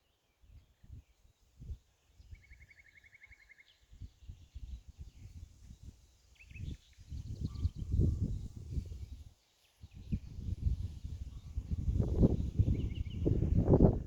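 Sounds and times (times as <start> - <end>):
wind rumbling on microphone: 0.5 - 2.8, 3.9 - 14.0.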